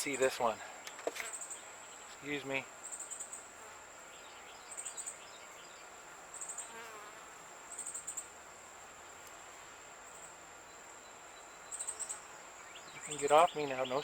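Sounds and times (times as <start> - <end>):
insect chirping trill: 0.0 - 14.0.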